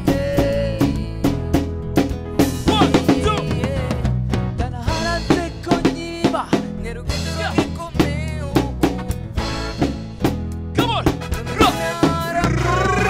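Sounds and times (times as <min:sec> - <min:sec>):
drum kit beat: 0:00.0 - 0:13.0
live afropop band playing: 0:00.0 - 0:13.0.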